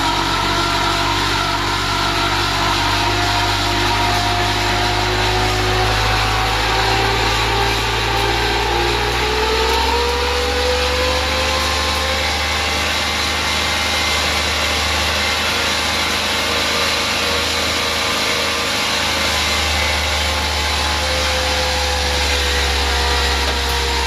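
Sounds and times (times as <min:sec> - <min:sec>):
snowblower engine with whine: 0:00.0 - 0:24.0.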